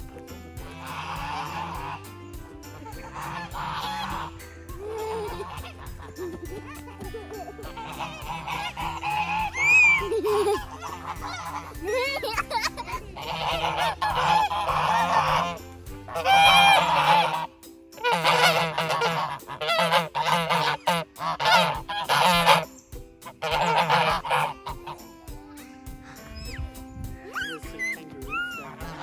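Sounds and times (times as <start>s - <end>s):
geese honking: 0.6s - 2.2s, 2.8s - 6.4s, 7.2s - 25.1s, 27.2s - 29.0s.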